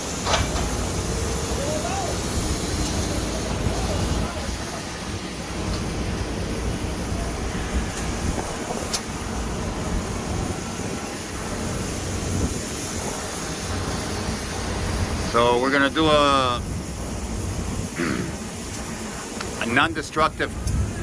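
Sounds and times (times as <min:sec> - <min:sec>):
wind buffeting microphone: 0:00.0 - 0:19.6, 0:20.2 - 0:21.0.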